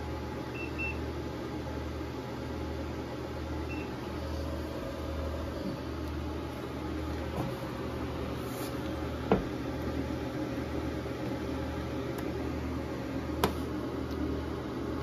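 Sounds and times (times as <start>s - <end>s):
inverter hum and fan noise: 0.0s - 15.0s.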